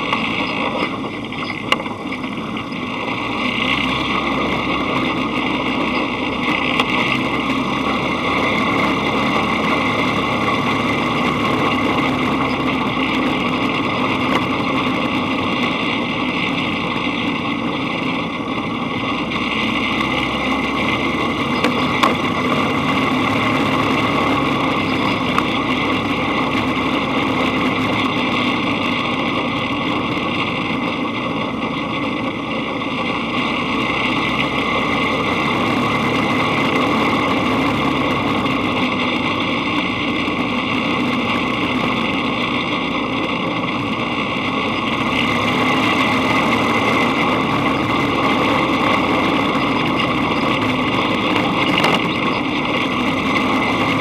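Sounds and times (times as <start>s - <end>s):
dune buggy engine running: 0.0s - 54.0s.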